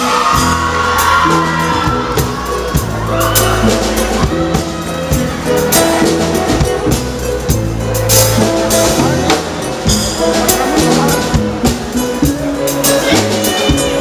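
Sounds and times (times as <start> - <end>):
bass: 0.0 - 14.0
drum kit: 0.0 - 14.0
guitar: 0.0 - 14.0.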